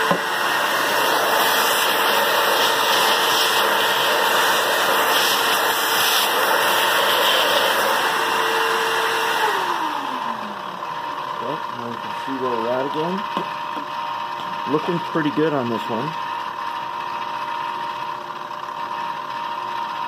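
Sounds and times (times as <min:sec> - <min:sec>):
shop vac whining: 0:00.0 - 0:20.0.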